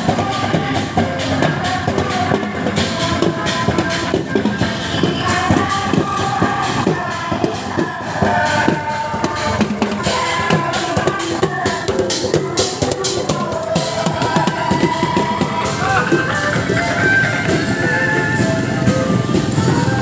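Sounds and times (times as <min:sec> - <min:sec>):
music with drum beat: 0:00.0 - 0:20.0.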